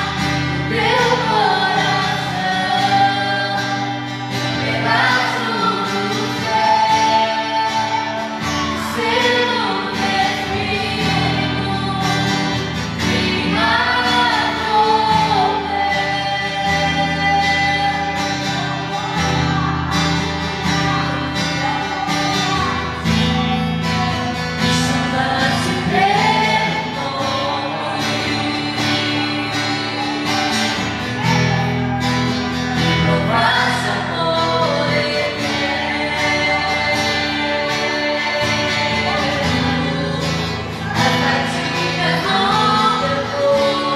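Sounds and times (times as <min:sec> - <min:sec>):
gospel singing: 0:00.0 - 0:43.9.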